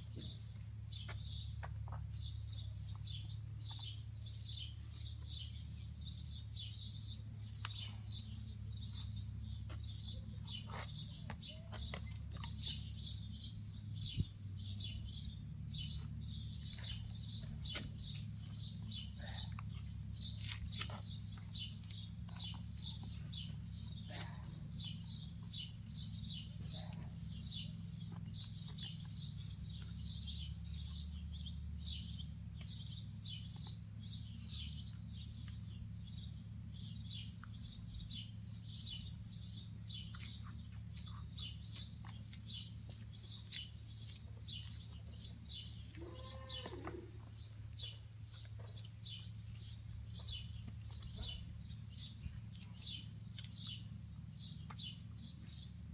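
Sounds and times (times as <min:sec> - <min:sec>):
low steady hum: 0:00.0 - 0:55.9
small birds chirping: 0:00.0 - 0:55.9.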